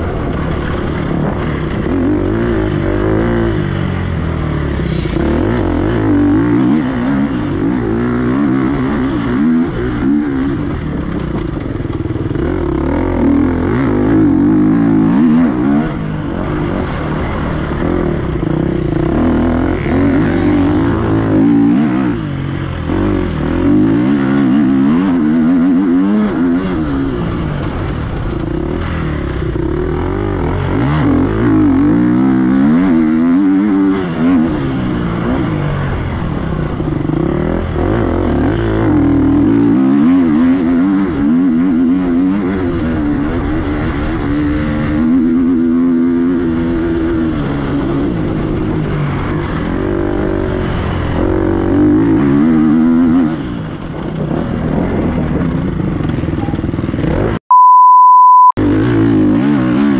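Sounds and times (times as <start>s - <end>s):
motorcycle engine revving: 0.0s - 57.4s, 58.6s - 59.9s.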